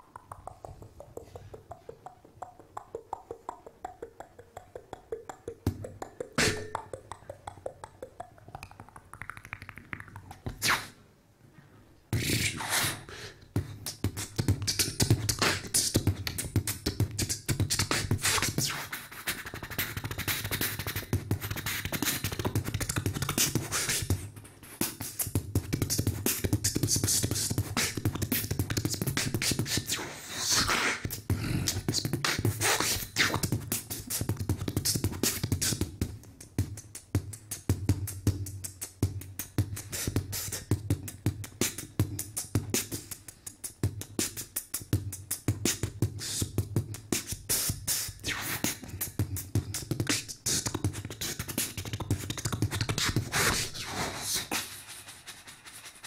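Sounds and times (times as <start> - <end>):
person beatboxing: 0.0 - 11.0, 12.1 - 56.0.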